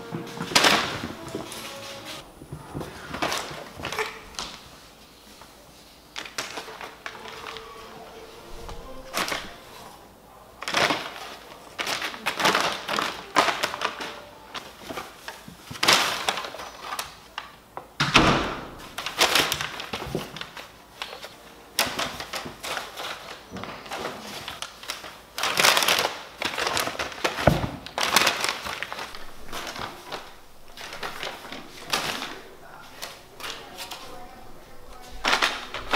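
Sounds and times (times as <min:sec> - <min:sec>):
paper crinkling and rustling: 0:00.0 - 0:35.9.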